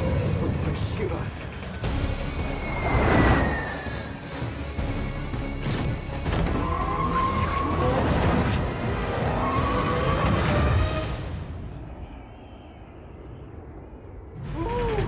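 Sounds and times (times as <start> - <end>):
film music score: 0.0 - 15.0.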